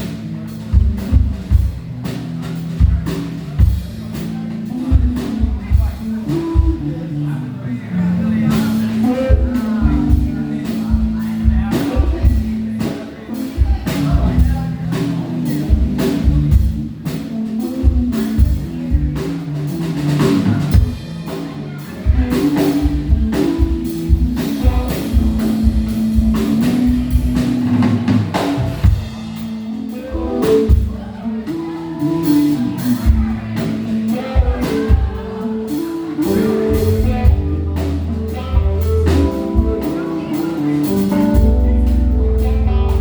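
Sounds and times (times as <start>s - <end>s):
bass: 0.0s - 43.0s
drum kit beat with rimshots: 0.0s - 43.0s
sustained keyboard chords: 0.0s - 43.0s.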